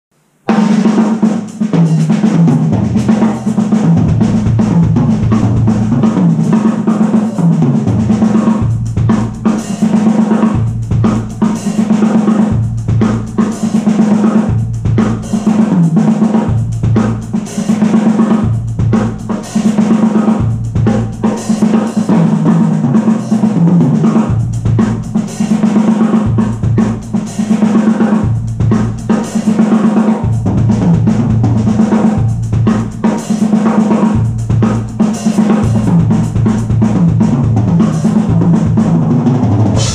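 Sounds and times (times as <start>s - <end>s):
drum kit playing groove: 0.4s - 39.9s.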